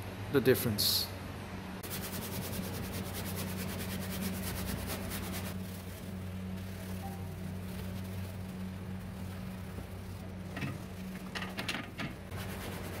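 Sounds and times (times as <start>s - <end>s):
steady low hum: 0.0s - 13.0s
brush scrubbing plastic: 1.8s - 13.0s.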